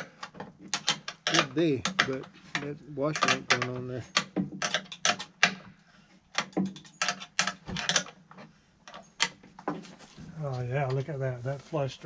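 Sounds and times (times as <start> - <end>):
bolts and nuts clicking: 0.0 - 9.8.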